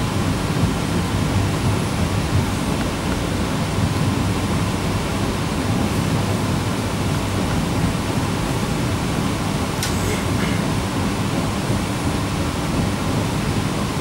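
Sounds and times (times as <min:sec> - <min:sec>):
train running inside carriage: 0:00.0 - 0:14.0.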